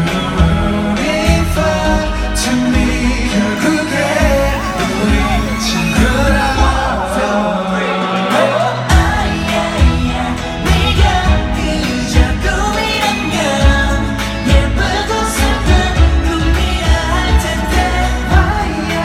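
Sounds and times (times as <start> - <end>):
person singing: 0.0 - 19.0
pop backing track: 0.0 - 19.0.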